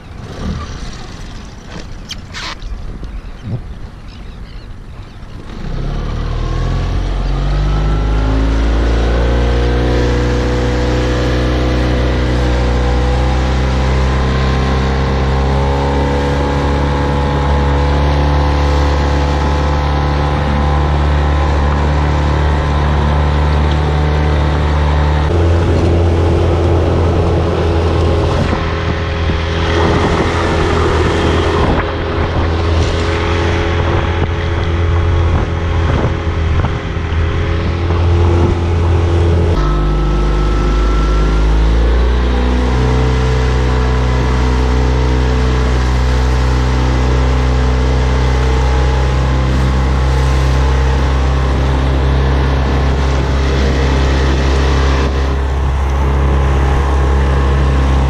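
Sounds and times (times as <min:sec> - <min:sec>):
wind noise: 0:00.0 - 0:05.8, 0:06.6 - 0:58.0
outboard motor running: 0:00.0 - 0:58.0
water noise: 0:00.0 - 0:58.0.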